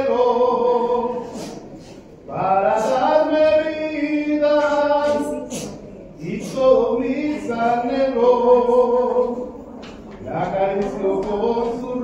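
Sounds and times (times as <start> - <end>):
person singing a hymn: 0.0 - 1.7, 2.3 - 12.0.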